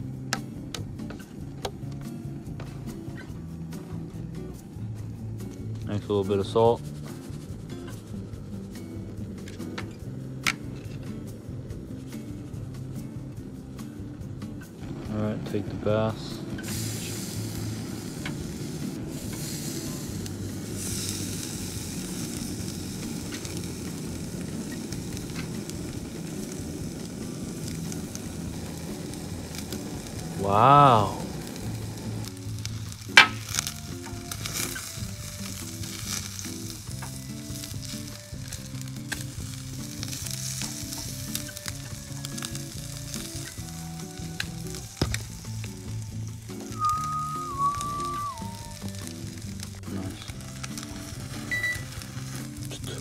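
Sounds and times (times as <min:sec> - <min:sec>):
fish sizzling on a grill: 0:00.0 - 0:53.0
soft background music: 0:00.0 - 0:53.0
faint crackles: 0:00.2 - 0:53.0.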